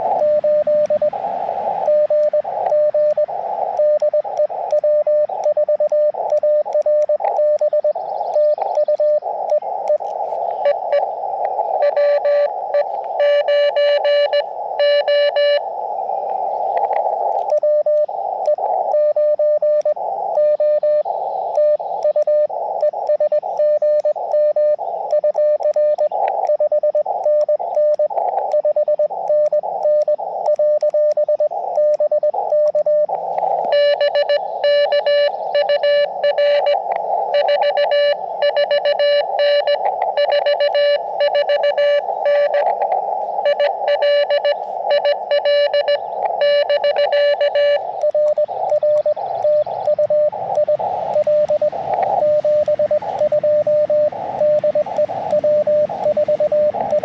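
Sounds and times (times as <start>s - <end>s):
morse code tone: 0.0s - 1.2s, 1.8s - 15.7s, 16.8s - 57.0s
radio band noise hiss: 0.0s - 57.0s.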